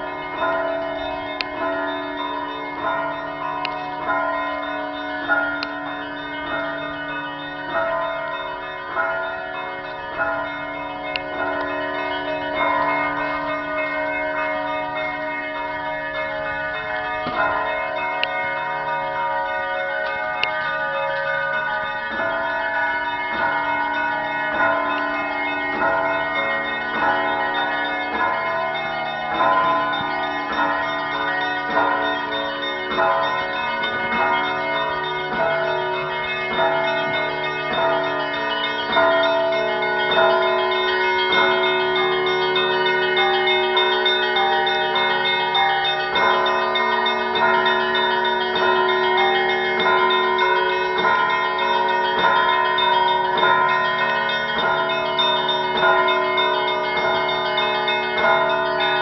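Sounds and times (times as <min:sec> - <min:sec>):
church bells ringing together: 0:00.0 - 0:59.0
deep hum of large bell: 0:00.0 - 0:59.0.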